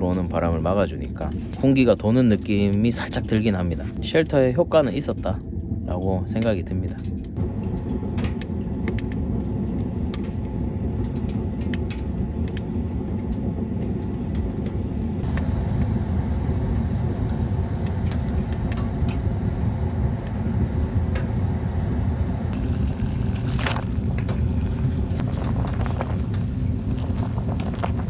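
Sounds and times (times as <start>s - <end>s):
wood fire crackling: 0.0s - 28.0s
low rumble: 1.5s - 28.0s.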